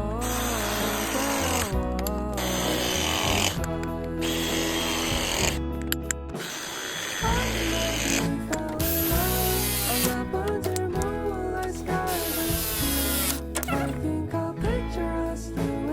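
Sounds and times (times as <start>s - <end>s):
background music with strong bass: 0.0s - 15.9s.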